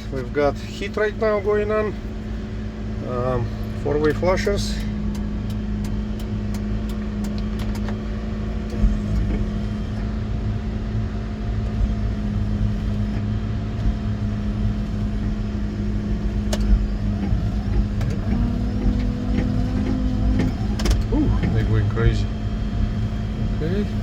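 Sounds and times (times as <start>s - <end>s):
engine idling: 0.0s - 24.0s
heater fan running: 0.8s - 24.0s.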